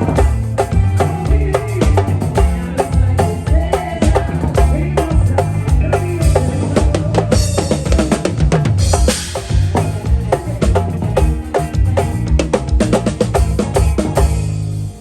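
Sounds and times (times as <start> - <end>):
upbeat music with drum beat: 0.0 - 15.0.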